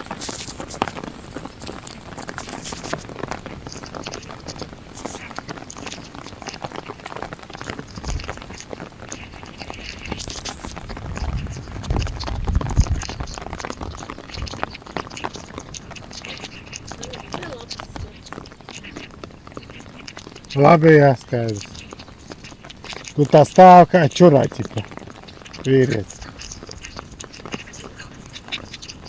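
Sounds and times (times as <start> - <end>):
heavy rain on a car: 0.0 - 29.0.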